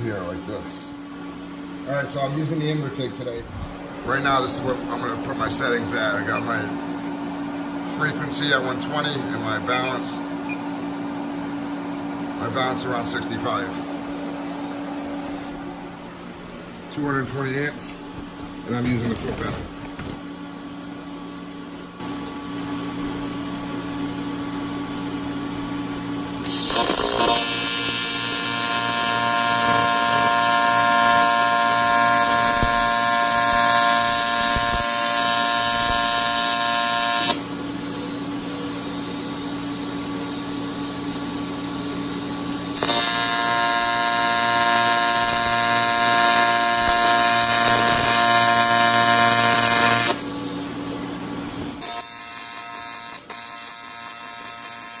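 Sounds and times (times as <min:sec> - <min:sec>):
welding arc buzzing: 0:01.1 - 0:55.0.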